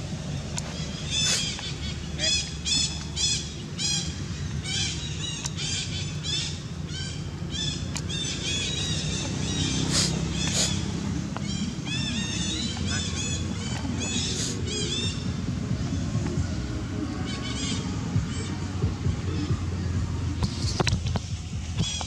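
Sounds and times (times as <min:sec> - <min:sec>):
bird chirping: 0:00.0 - 0:20.9
low outdoor rumble: 0:00.0 - 0:22.0.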